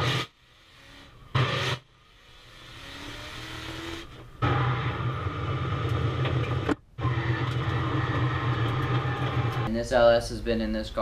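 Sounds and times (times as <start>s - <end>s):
car engine during drift: 0.0s - 9.7s.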